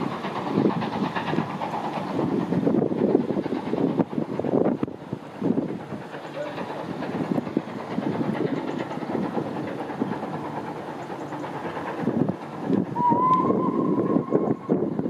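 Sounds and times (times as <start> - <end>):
distant steam train rumble: 0.0 - 15.0.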